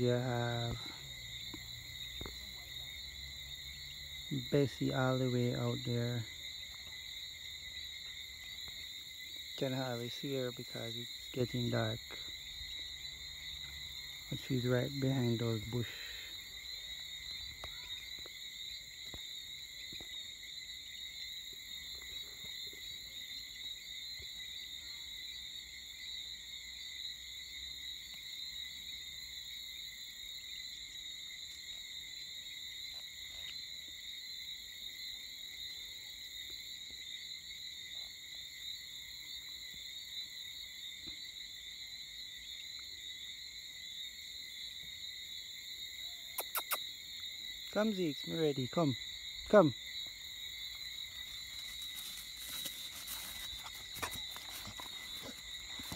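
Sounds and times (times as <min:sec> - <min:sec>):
insects calling: 0:00.0 - 0:55.9.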